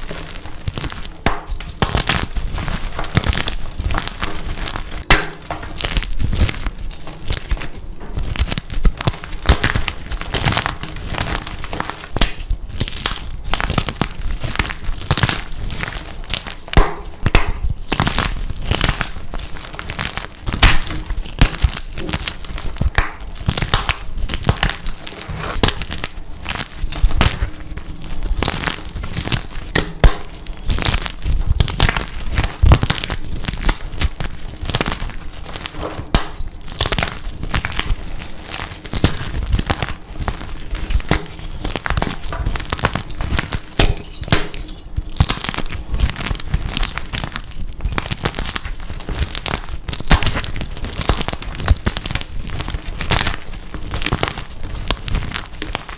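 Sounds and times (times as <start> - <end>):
chalk blocks crunching: 0.0 - 55.9.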